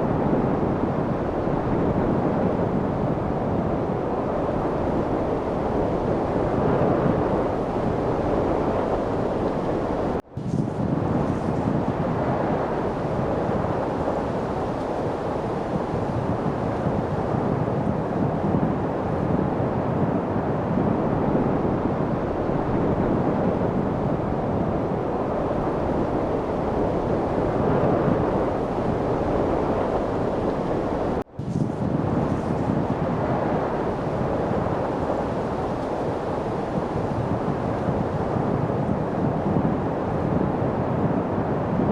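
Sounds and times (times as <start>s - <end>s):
steady wind rushing: 0.0s - 41.9s.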